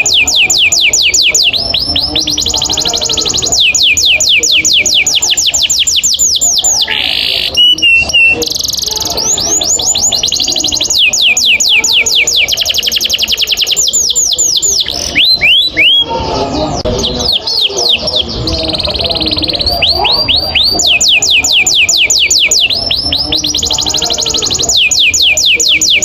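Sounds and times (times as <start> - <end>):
canary singing trills: 0.0 - 26.0.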